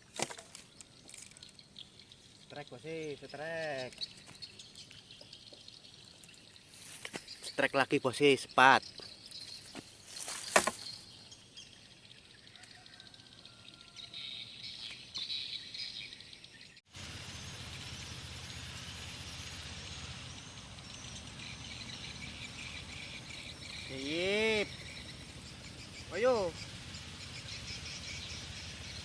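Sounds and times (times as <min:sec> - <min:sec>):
birds chirping: 0:00.0 - 0:29.0
insects calling: 0:00.0 - 0:29.0.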